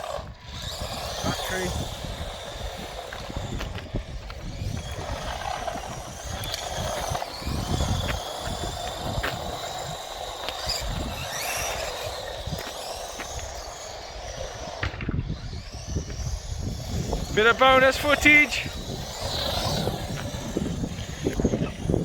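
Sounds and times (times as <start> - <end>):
toy truck electric motors whining: 0.0 - 22.0.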